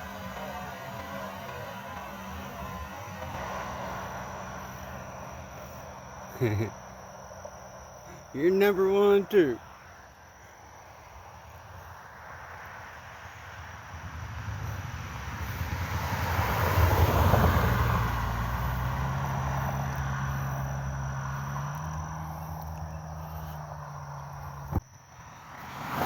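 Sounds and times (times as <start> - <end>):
vehicle passing on road: 0.0 - 26.0.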